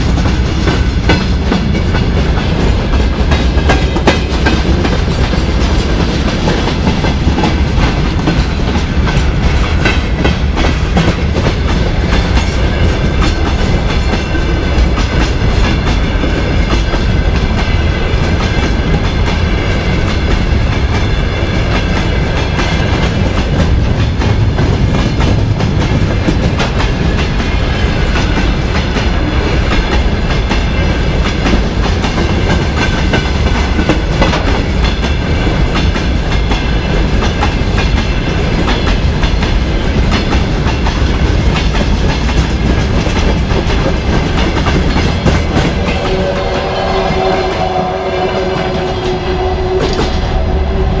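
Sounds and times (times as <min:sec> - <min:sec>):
freight train wheels clickety-clack: 0:00.0 - 0:51.0.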